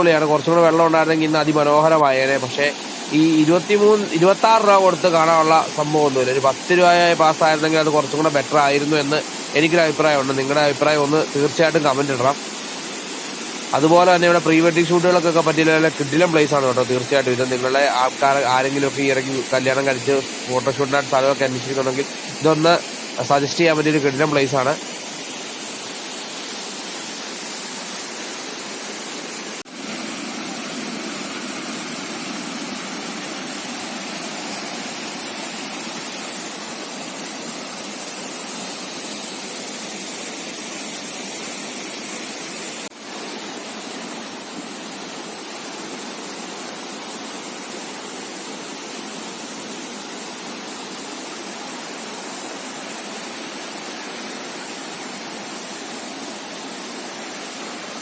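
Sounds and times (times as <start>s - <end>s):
small waterfall rushing: 0.0s - 58.0s.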